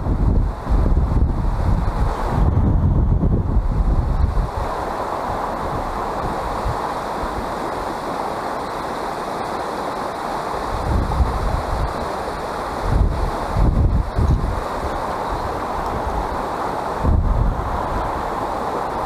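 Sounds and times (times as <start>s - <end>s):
wind buffeting microphone: 0.0s - 9.1s, 10.5s - 19.0s
river running over stones: 0.0s - 19.0s.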